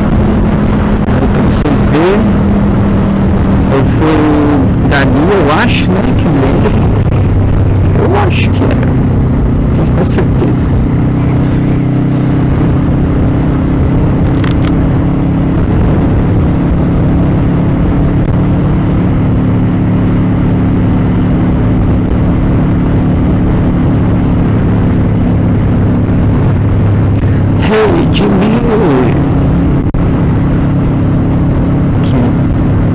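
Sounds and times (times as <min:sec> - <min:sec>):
motorcycle engine running: 0:00.0 - 0:32.9
wind noise on microphone: 0:00.0 - 0:32.9.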